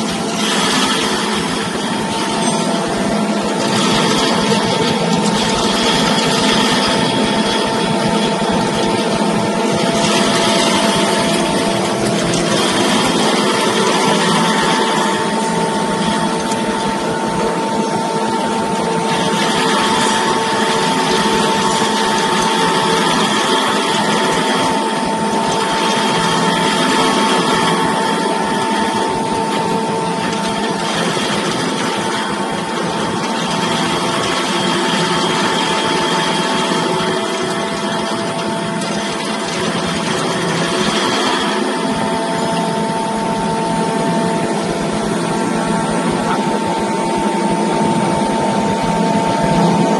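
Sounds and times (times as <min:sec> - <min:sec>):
electric grinding mill running: 0:00.0 - 0:49.9.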